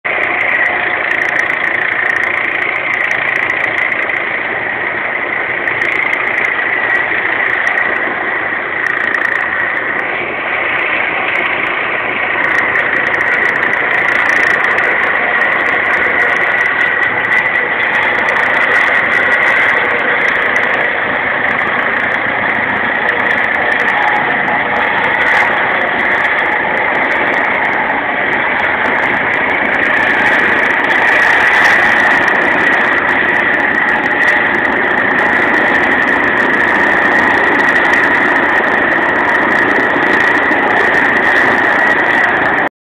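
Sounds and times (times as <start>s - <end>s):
helicopter hovering: 0.0s - 42.7s.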